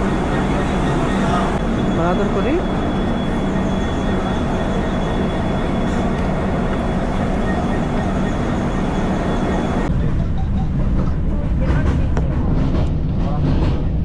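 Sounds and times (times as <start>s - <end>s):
passenger train running: 0.0s - 14.0s.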